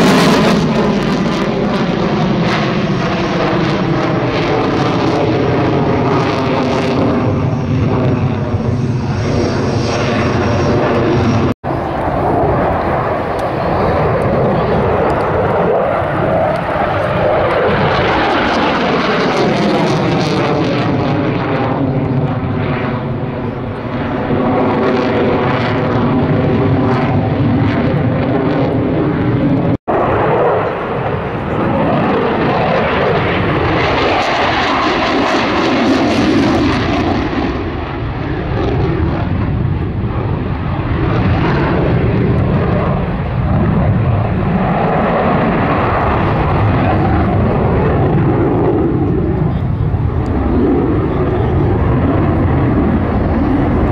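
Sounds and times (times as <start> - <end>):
jet engine roar: 0.0 - 53.9.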